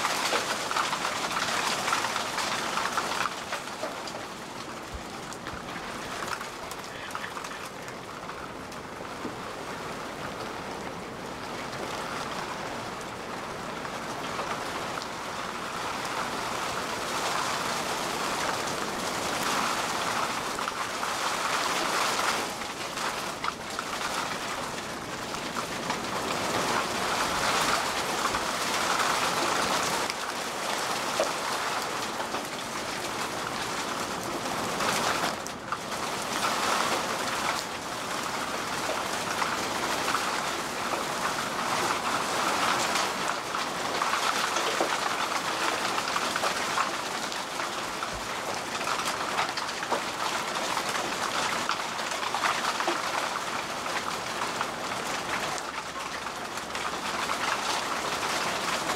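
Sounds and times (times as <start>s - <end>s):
heavy rain on asphalt: 0.0s - 58.9s.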